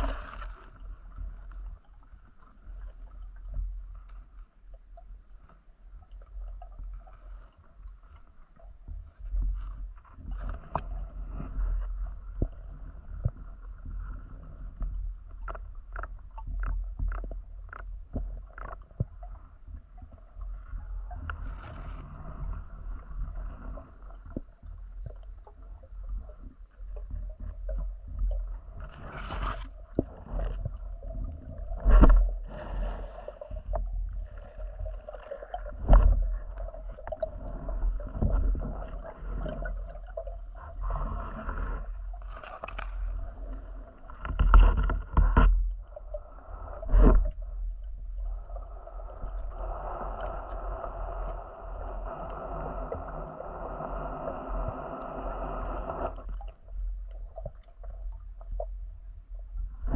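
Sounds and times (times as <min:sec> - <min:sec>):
low underwater rumble: 0:00.0 - 0:59.9
underwater sloshing and gurgling: 0:00.0 - 0:59.9.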